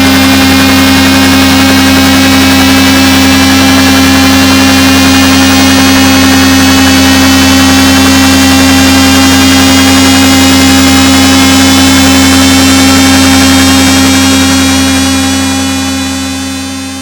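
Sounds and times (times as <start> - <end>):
synthesized helicopter drone: 0.0 - 17.0.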